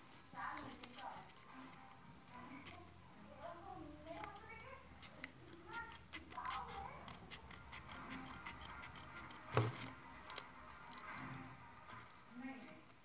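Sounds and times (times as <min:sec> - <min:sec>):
scissors cutting paper: 0:00.2 - 0:13.0.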